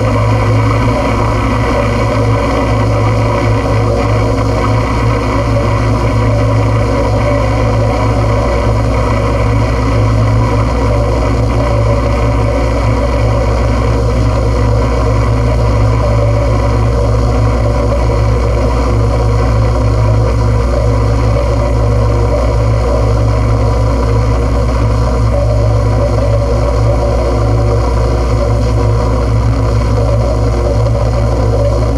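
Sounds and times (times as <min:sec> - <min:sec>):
droning noise music: 0:00.0 - 0:31.9
low hum: 0:00.0 - 0:31.9.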